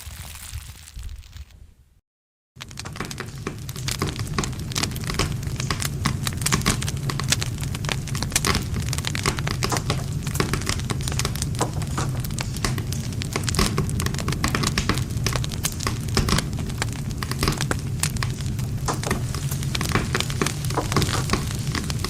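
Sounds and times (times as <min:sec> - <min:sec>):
campfire crackling and popping: 0:02.6 - 0:22.0
low rumble of flames: 0:02.6 - 0:22.0.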